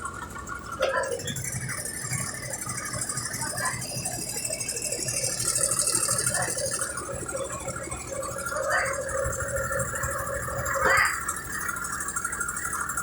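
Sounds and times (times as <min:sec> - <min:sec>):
washing machine rattling: 0:00.0 - 0:13.0.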